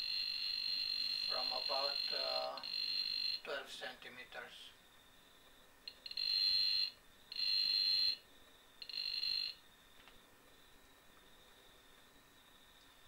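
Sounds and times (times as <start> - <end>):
faint steady high tone: 0.0 - 5.3, 5.9 - 13.0.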